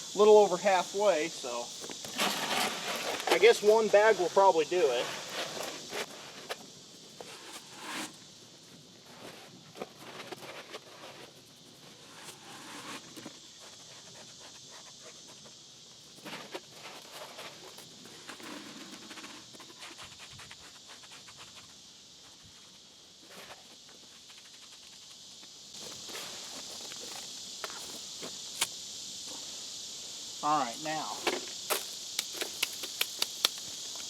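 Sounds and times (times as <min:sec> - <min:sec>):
high hiss of insects: 0:00.0 - 0:34.0.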